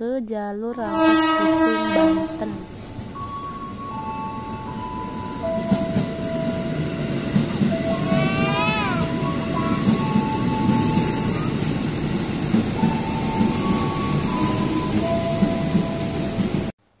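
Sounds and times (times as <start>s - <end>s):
pitch-shifting tones: 0.7s - 16.5s
electric train running past: 0.8s - 16.7s.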